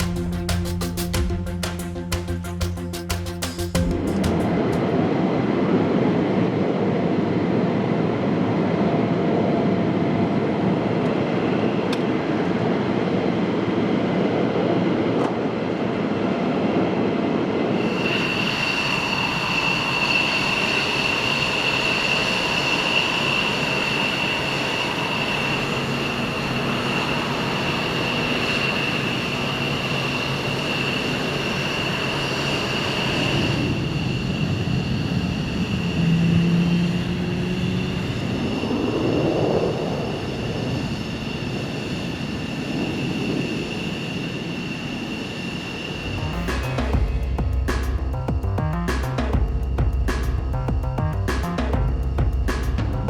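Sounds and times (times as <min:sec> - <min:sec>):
turbine whine: 0:00.0 - 0:53.0
jet engine rumble: 0:03.8 - 0:53.0.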